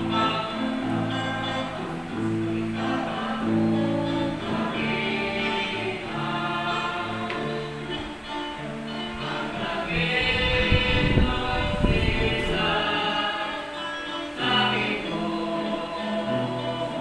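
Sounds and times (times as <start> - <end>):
choir singing slow religious song: 0.0 - 17.0.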